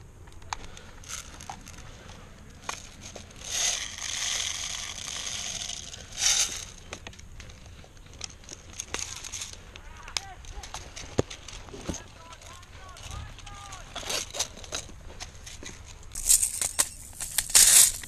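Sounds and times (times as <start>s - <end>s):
leaves and twigs rustling: 0.0s - 18.0s.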